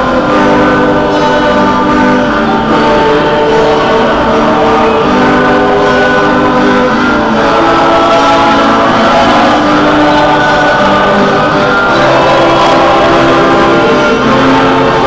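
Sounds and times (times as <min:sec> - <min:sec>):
choir singing with instruments: 0:00.0 - 0:15.0.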